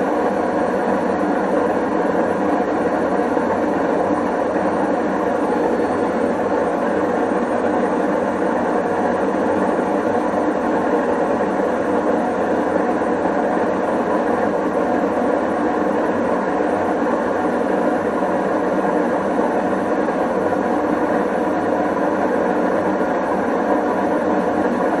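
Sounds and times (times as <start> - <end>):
washing machine running: 0.0 - 25.0.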